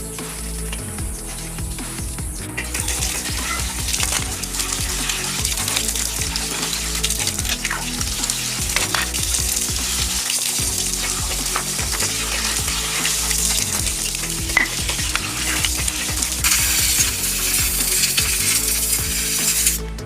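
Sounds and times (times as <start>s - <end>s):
crackling sizzling hiss: 0.0s - 19.9s
background music with bass: 0.0s - 20.0s.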